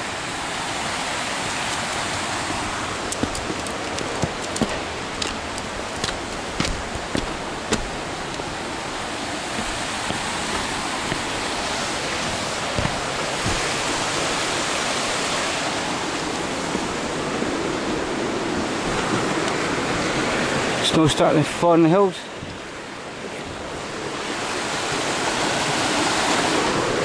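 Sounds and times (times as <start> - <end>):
stream rushing over rocks: 0.0 - 27.0.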